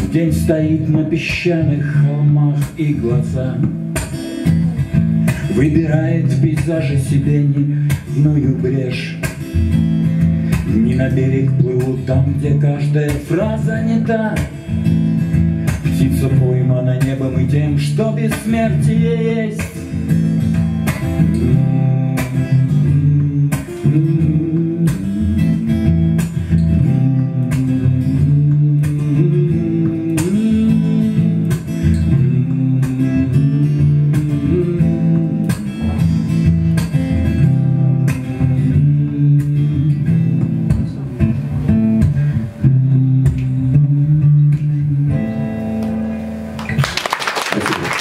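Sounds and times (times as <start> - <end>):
acoustic guitar chords: 0.0 - 47.0.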